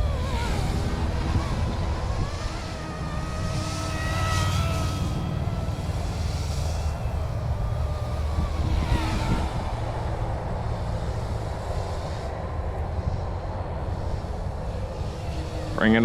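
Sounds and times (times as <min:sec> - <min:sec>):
rc helicopter rotor whine: 0:00.0 - 0:16.0
wind rumble on microphone: 0:00.0 - 0:16.0.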